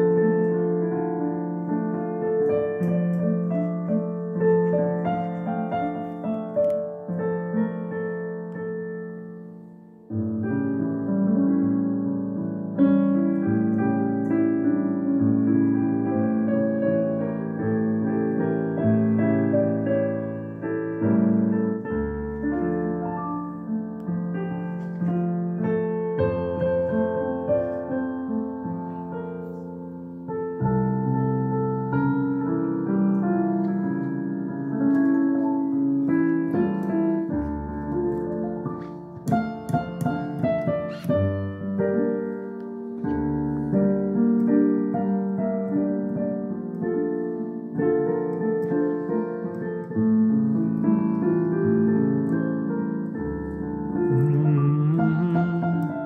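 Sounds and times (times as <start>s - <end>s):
solo piano melody: 0.0s - 56.0s.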